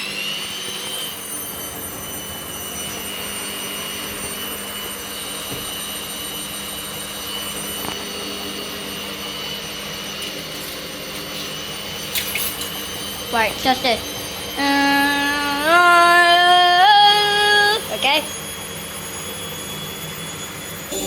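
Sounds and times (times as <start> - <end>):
washer dryer spinning: 0.0 - 21.0.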